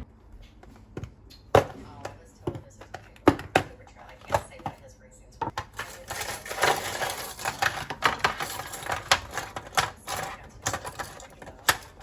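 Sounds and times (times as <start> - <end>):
kitchen items clicking and tapping: 0.3 - 12.0.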